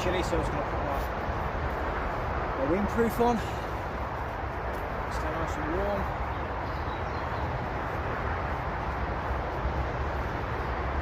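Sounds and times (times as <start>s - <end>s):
motorway traffic rushing: 0.0s - 11.0s.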